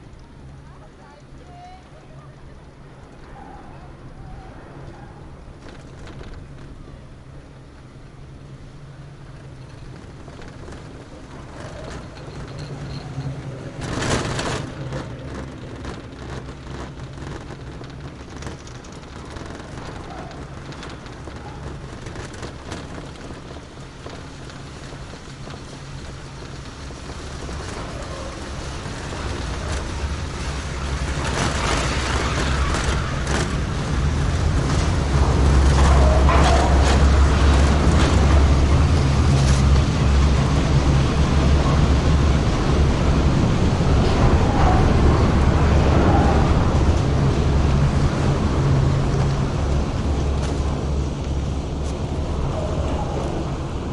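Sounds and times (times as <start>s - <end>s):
chairlift clatter: 0.0s - 53.9s
chairlift rumbling and humming: 0.0s - 53.9s.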